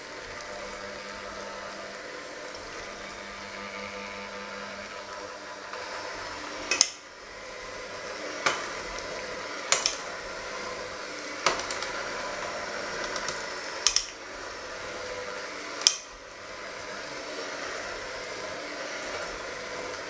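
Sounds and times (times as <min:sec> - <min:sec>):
electric hand mixer whirring: 0:00.0 - 0:20.0.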